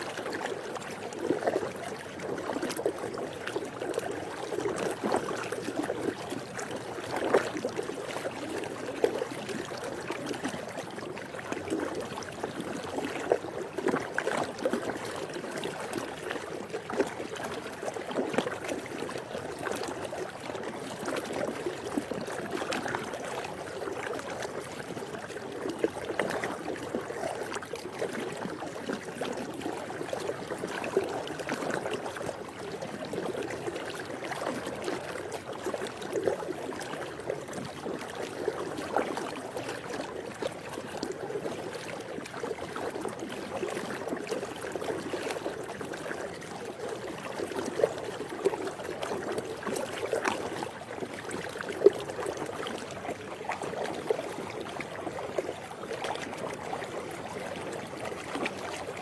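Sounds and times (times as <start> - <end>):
pool water lapping: 0.0 - 59.0
small water splashes: 0.0 - 59.0.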